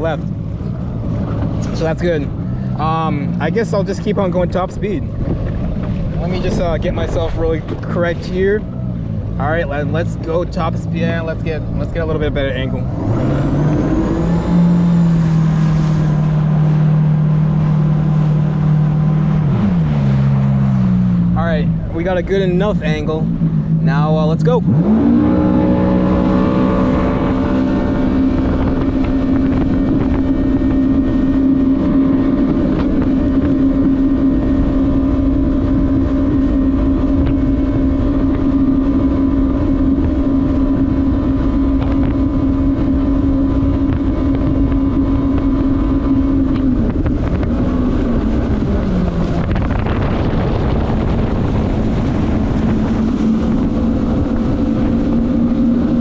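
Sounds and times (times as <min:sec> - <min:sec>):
jet ski engine drone: 0:00.0 - 0:56.0
wind noise on microphone: 0:00.0 - 0:56.0.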